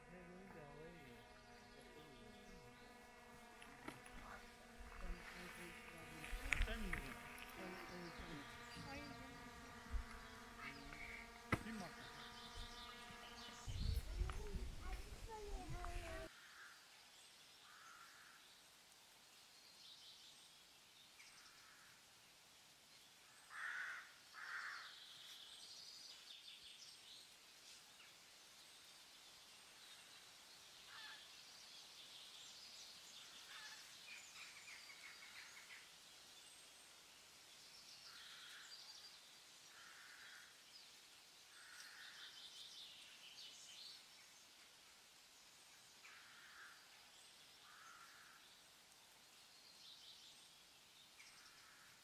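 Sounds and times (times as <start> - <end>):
faint birds chirping: 0.0 - 52.0.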